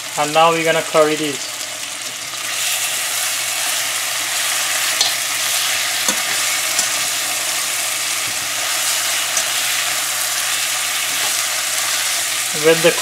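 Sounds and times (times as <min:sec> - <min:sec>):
oil sizzling in a pot: 0:00.0 - 0:13.0.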